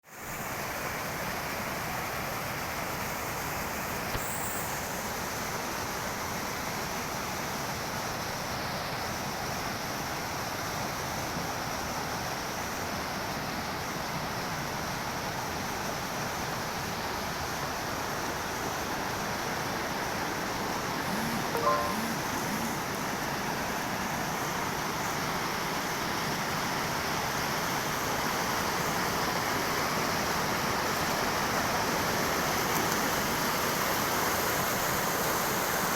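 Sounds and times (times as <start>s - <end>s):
river water rushing: 4.9s - 35.9s.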